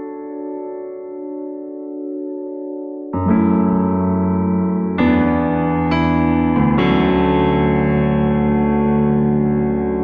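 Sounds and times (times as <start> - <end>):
electric piano chords: 0.0 - 10.0.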